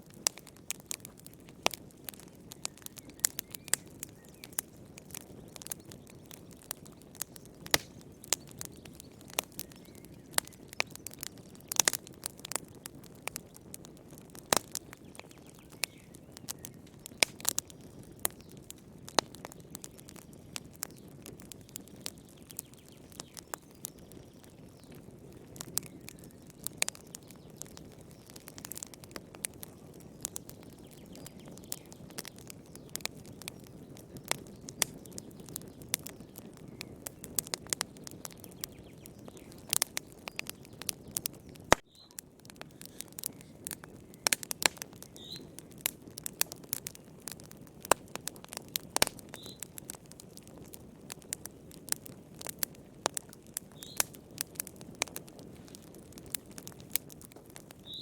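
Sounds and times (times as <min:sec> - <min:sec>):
soft rushing of flames: 0:00.0 - 0:58.0
wood fire crackling: 0:00.0 - 0:58.0.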